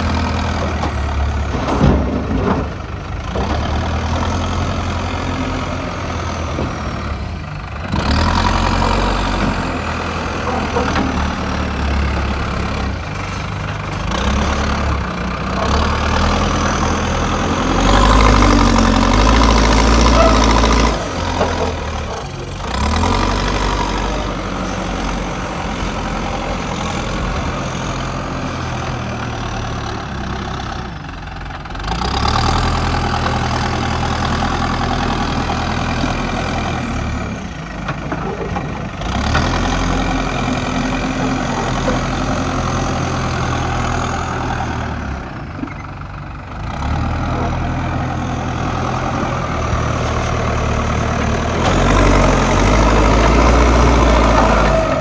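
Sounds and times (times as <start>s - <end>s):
backhoe diesel engine revving: 0.0s - 55.0s.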